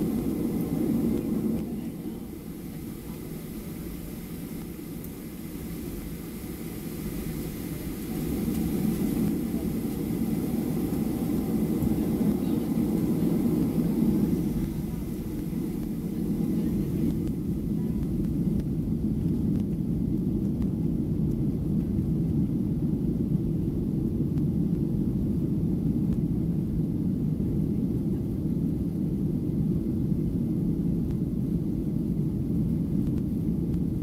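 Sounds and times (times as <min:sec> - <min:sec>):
jet engine cabin rumble: 0:00.0 - 0:34.0.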